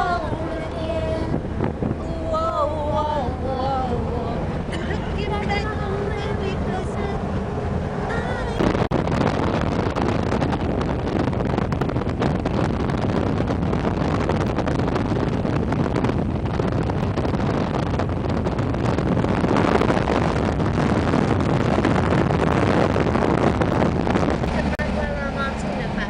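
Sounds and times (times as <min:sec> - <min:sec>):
car road and wind noise: 0:00.0 - 0:26.0
wind buffeting microphone: 0:00.0 - 0:26.0.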